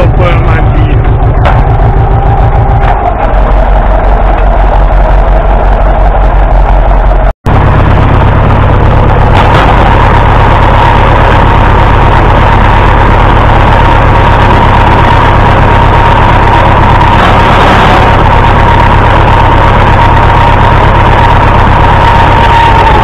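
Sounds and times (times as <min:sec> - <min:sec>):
diesel tractor engine running: 0:00.0 - 0:23.0
steady high whine: 0:00.0 - 0:23.0.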